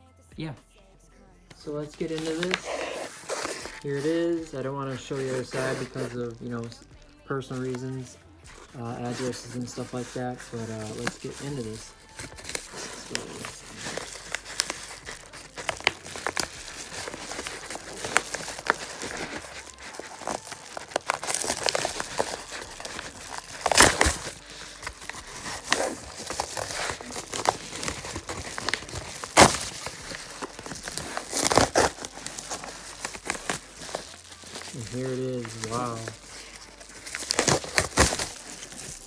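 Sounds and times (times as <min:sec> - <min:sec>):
packaging crinkling: 0:01.5 - 0:39.0
packaging tearing: 0:01.7 - 0:39.0.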